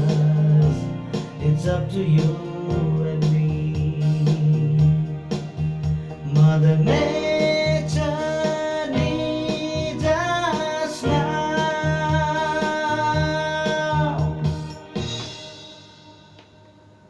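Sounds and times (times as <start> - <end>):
person singing: 0.0 - 16.4.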